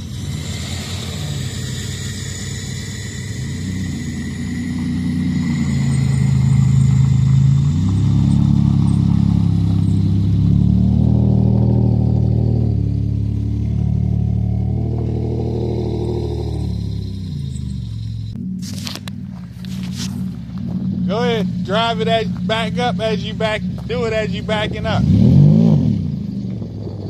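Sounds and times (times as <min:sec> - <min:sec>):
car engine and exhaust drone: 0:00.0 - 0:27.0.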